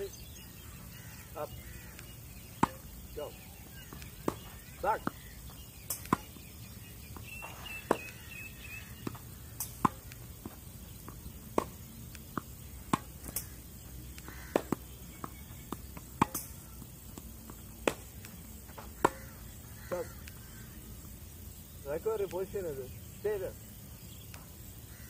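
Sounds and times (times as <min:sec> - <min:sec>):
tennis balls struck with rackets: 0:00.0 - 0:24.7
tennis balls bouncing on clay: 0:00.0 - 0:25.0.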